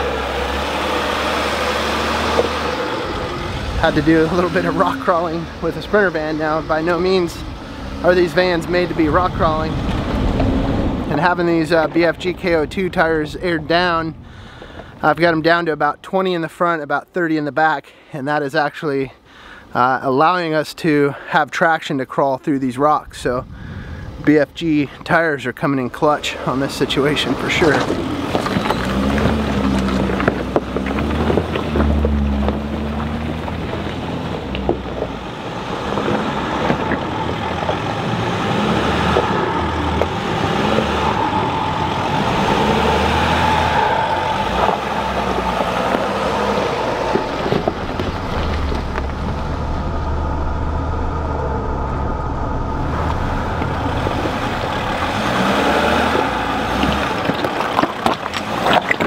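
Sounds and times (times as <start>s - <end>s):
van engine crawling over rocks: 0.0s - 16.7s, 24.3s - 59.0s.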